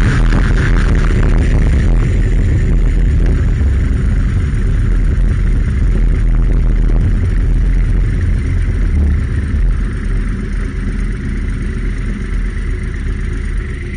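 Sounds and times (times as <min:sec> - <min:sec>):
motorcycle engine rumble: 0:00.0 - 0:13.9.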